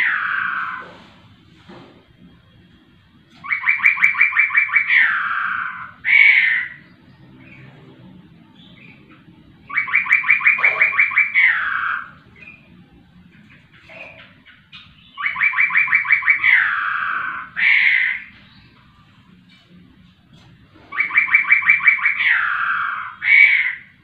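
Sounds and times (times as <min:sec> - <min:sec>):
bird singing: 0:02.3 - 0:19.6, 0:20.9 - 0:24.0.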